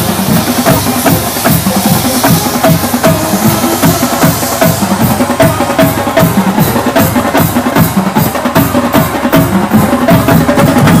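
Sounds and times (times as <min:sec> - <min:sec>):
marching band drumline: 0:00.0 - 0:11.0
marching band horns: 0:00.0 - 0:11.0.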